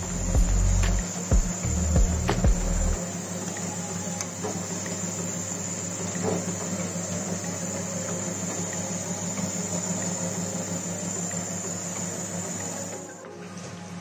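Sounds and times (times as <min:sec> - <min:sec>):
steady low hum: 0:00.0 - 0:13.0
high-pitched whine: 0:00.0 - 0:14.0.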